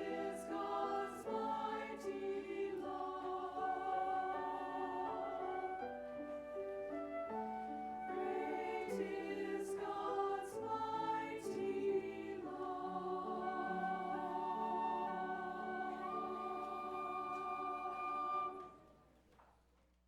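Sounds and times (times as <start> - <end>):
choir singing with accompaniment: 0.0 - 6.6, 7.4 - 18.9.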